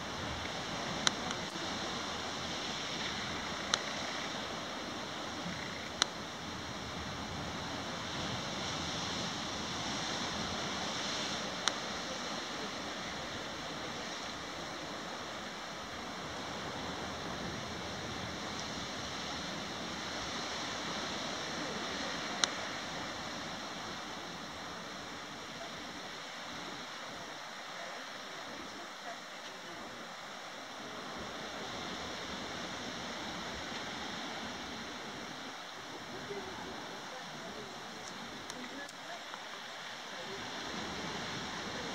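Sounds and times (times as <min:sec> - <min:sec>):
sea surf rushing: 0:00.0 - 0:41.9.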